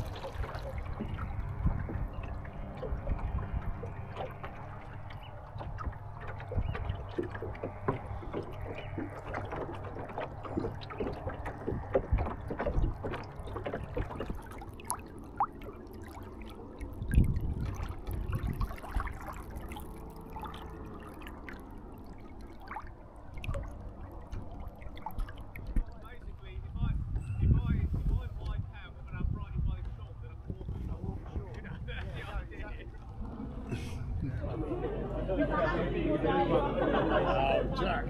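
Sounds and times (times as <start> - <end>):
water slapping against hull: 0.0 - 35.0
low rumble: 0.0 - 38.0.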